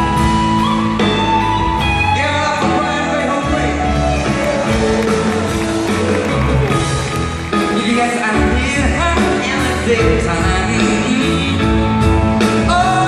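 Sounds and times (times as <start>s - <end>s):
band and orchestra playing pop ballad: 0.0s - 13.0s.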